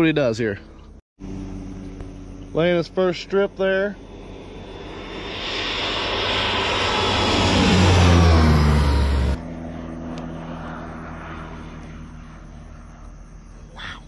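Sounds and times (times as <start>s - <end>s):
airplane passing low overhead: 0.0s - 14.0s
faint engine drone: 0.0s - 14.0s.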